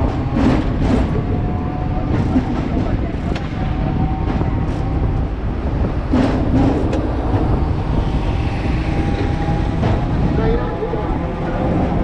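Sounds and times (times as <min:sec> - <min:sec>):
tram motors and wheels rumbling: 0:00.0 - 0:12.0.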